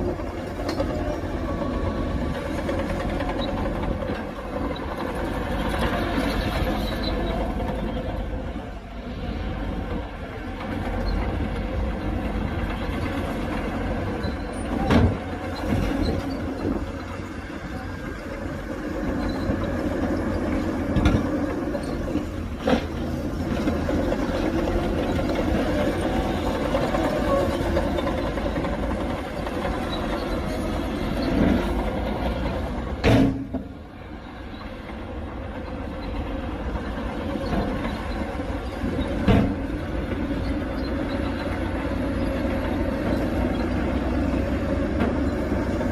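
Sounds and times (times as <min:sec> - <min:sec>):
diesel machinery running: 0:00.0 - 0:45.9.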